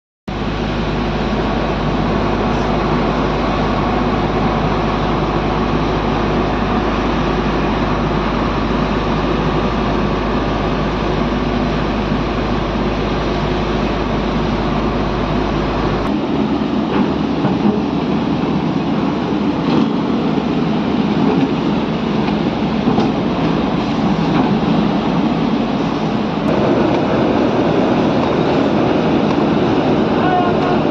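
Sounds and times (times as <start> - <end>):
heavy machinery running: 0.3 - 30.9.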